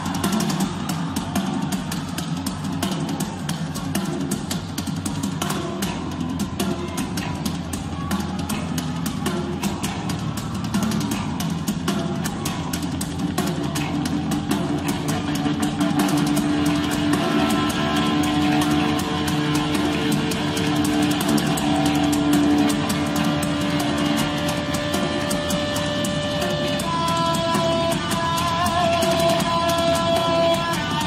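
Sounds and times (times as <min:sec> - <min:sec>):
drum kit playing: 0:00.0 - 0:31.0.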